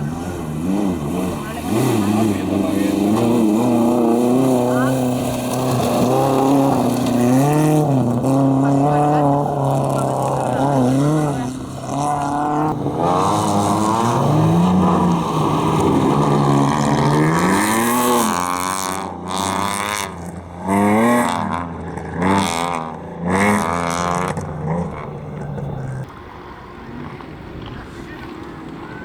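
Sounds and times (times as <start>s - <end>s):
racing engine revving hard: 0.0s - 26.1s.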